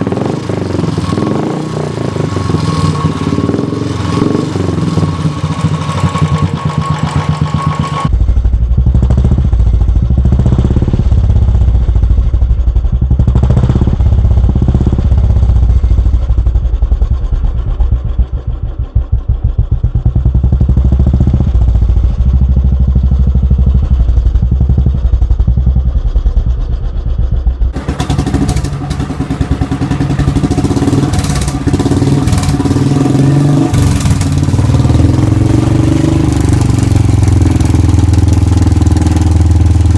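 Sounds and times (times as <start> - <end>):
motorcycle exhaust thumping: 0.0 - 39.9.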